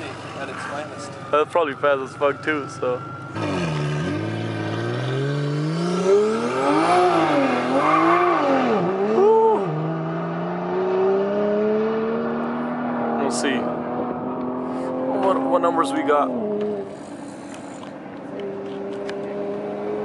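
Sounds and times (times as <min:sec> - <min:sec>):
car engine revving: 0:02.8 - 0:20.0.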